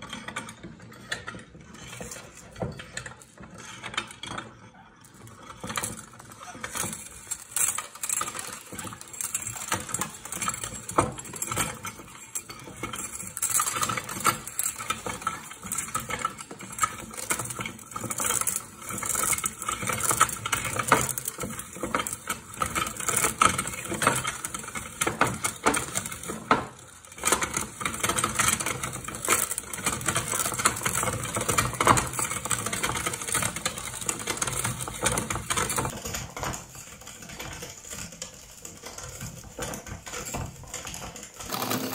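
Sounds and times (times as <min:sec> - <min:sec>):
metal grinder clinking and rattling: 0:00.0 - 0:41.9
dry pasta crackling and snapping: 0:05.1 - 0:41.9.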